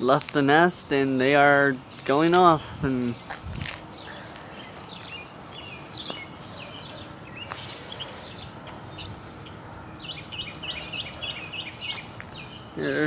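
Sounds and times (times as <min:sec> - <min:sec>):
small birds chirping: 0:00.0 - 0:13.0
steady background noise: 0:00.0 - 0:13.0.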